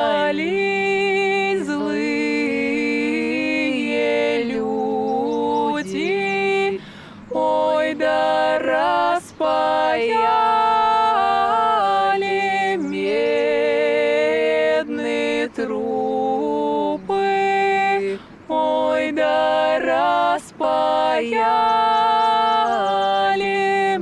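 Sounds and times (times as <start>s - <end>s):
a cappella group singing harmony: 0.0s - 24.0s.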